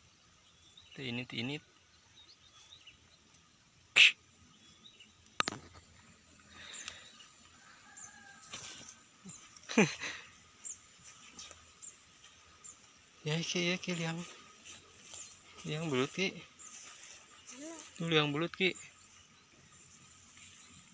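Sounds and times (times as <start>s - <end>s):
faint bird chirps: 0.0s - 5.8s, 6.4s - 20.9s.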